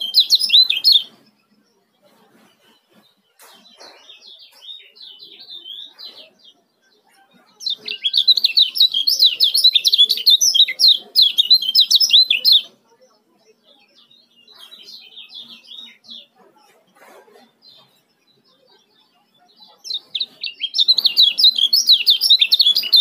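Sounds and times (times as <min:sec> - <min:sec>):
bird chattering: 0:00.0 - 0:01.2, 0:02.0 - 0:23.0.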